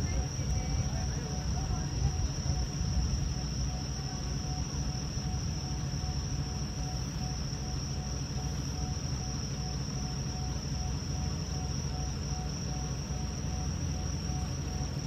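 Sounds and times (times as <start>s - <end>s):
crickets chirring: 0.0s - 15.0s
diesel railcar idling: 0.0s - 15.0s.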